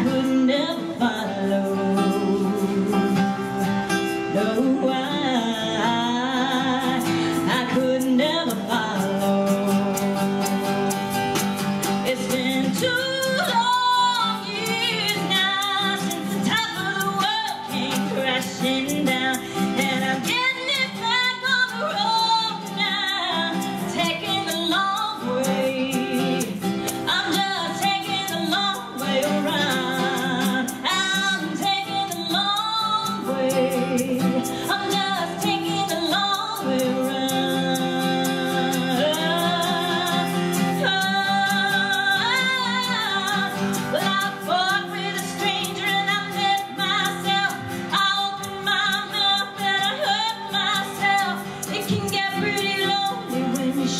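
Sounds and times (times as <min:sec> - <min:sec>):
guitar accompaniment: 0:00.0 - 0:53.9
woman singing: 0:00.0 - 0:53.9.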